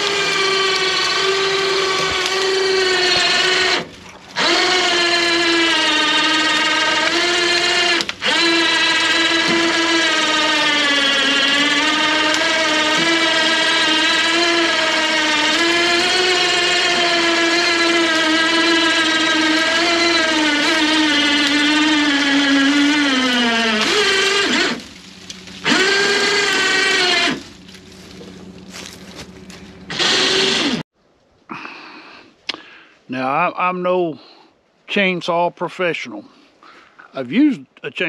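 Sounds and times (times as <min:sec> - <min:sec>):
chainsaw cutting tree trunk: 0:00.0 - 0:30.8
chainsaw revving: 0:00.0 - 0:30.8.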